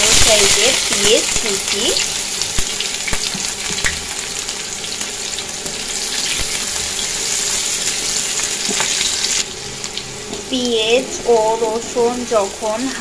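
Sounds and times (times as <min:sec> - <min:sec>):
onion and garlic sizzling in oil: 0:00.0 - 0:13.0.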